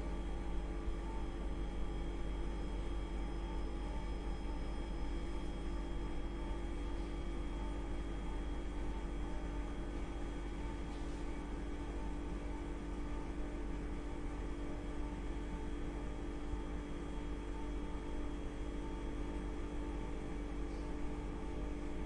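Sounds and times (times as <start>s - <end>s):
refrigerator compressor hum: 0.0s - 22.0s.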